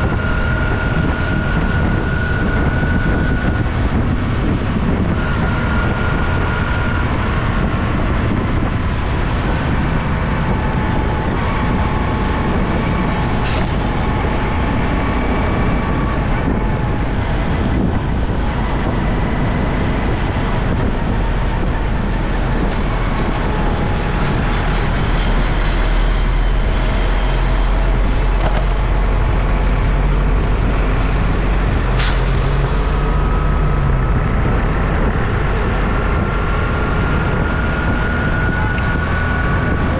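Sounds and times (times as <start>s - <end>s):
busy road traffic engines: 0.0s - 39.9s.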